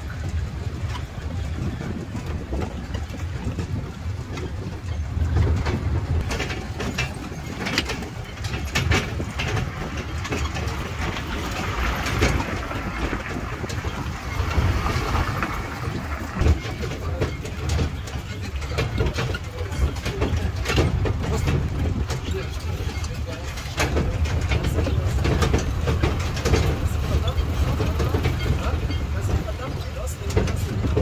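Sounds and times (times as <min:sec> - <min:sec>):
carriages knocking and rattling: 0:00.0 - 0:31.0
engine low rumble: 0:00.0 - 0:31.0.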